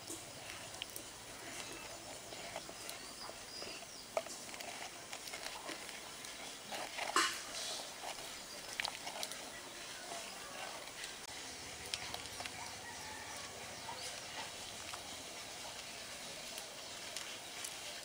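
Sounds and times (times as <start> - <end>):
wet stirring of lentils: 0.0 - 18.0.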